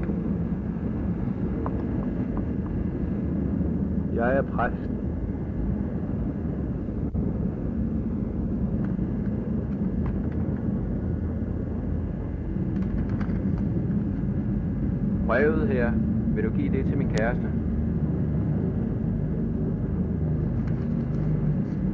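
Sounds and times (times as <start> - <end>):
low rumble and hum: 0.0 - 21.9.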